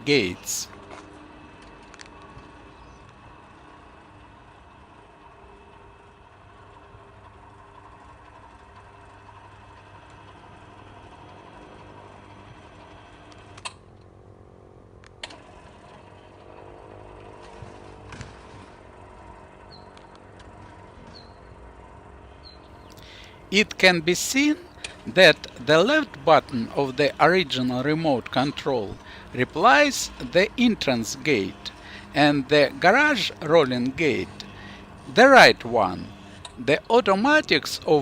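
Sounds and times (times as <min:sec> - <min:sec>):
gate motor humming: 0:00.0 - 0:14.1, 0:15.2 - 0:38.0.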